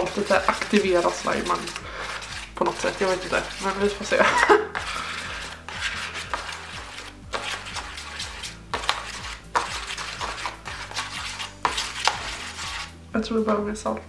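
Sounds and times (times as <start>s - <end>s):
foam squishing and scraping: 0.0s - 13.0s.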